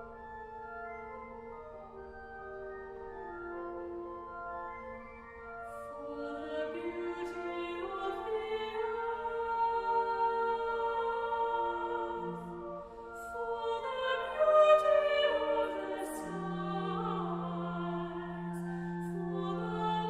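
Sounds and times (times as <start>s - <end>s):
slow music with held chords: 0.0s - 20.0s.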